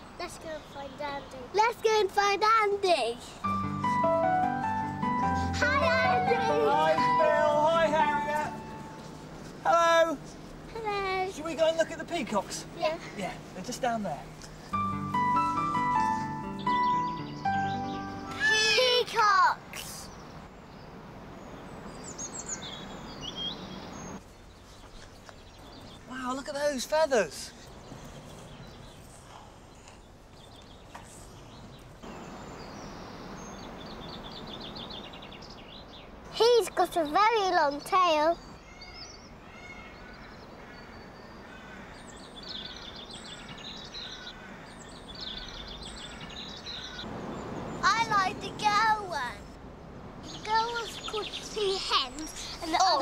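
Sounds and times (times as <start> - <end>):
songbird chirps: 0.0 - 53.0
steady background hiss: 0.0 - 53.0.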